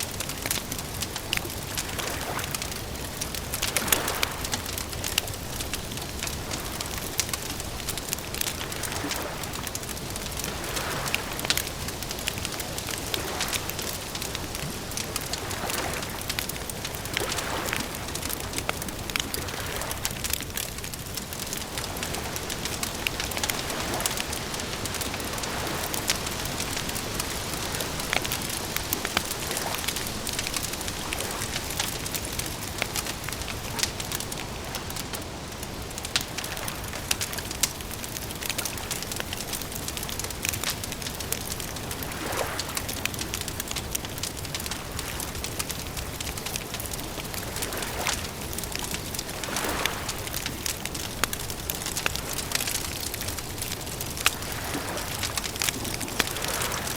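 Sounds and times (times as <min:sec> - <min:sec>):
campfire crackling: 0:00.0 - 0:56.9.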